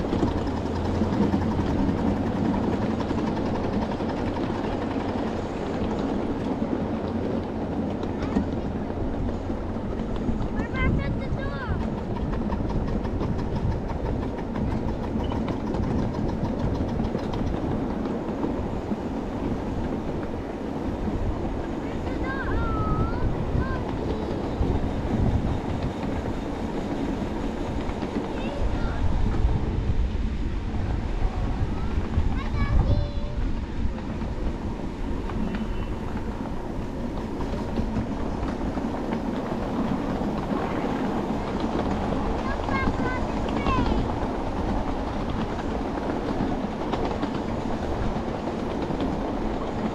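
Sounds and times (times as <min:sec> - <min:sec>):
small wheels rumbling on track: 0:00.0 - 0:49.9.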